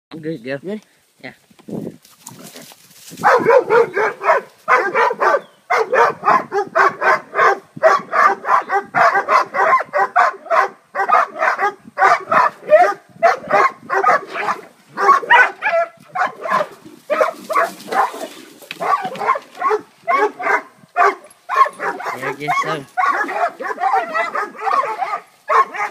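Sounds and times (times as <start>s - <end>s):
dogs barking: 3.2s - 25.9s.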